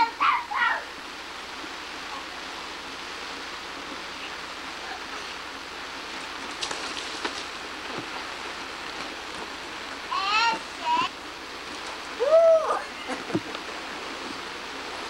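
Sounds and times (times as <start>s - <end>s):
lawn sprinkler hissing: 0.0s - 15.0s.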